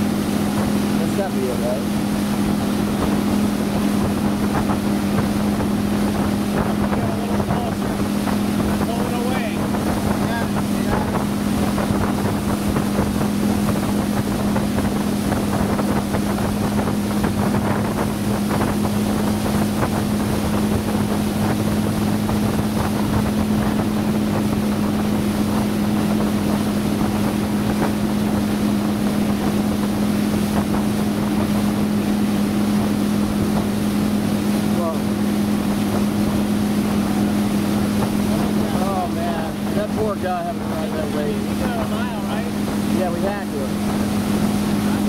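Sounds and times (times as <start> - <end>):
motorboat engine running: 0.0 - 45.0
wind noise on microphone: 1.9 - 45.0.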